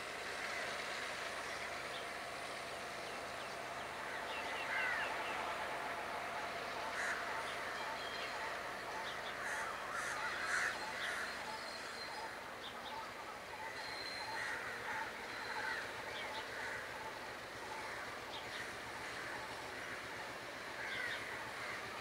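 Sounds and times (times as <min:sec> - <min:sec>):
steady background hum: 0:00.0 - 0:22.0
harsh crow-like bird calls: 0:03.9 - 0:22.0.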